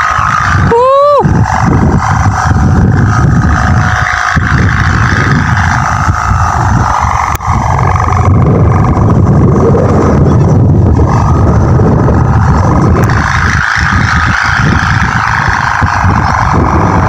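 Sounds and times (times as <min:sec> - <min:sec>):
steady high hum: 0:00.0 - 0:17.0
wind buffeting microphone: 0:00.0 - 0:17.0.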